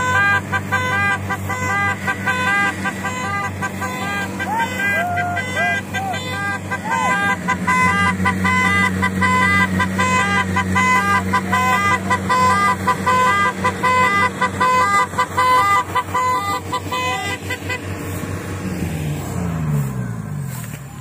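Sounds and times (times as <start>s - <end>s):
high beeping tonal notes: 0.0s - 20.2s
combine harvester engine hum: 0.0s - 21.0s.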